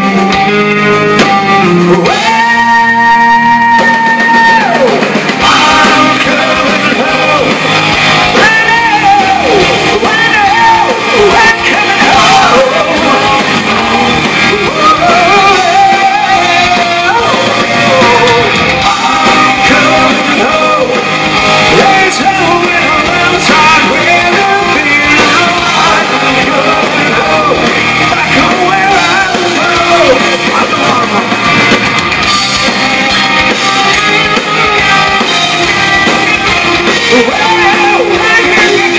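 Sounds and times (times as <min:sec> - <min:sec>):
distorted electric guitars: 0:00.0 - 0:38.9
hard rock band playing: 0:00.0 - 0:38.9
male lead vocal: 0:01.7 - 0:31.8, 0:36.8 - 0:38.9.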